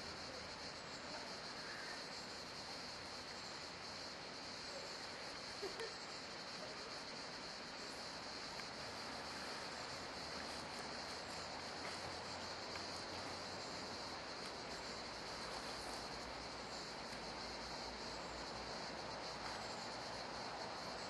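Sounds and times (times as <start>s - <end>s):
even hiss: 0.0s - 21.0s.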